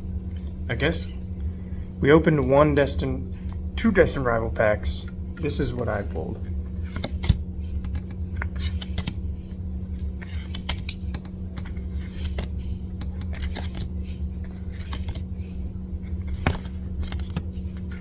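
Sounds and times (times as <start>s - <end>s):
steady low hum: 0.0s - 18.0s
trading cards clicking and rustling: 3.4s - 18.0s.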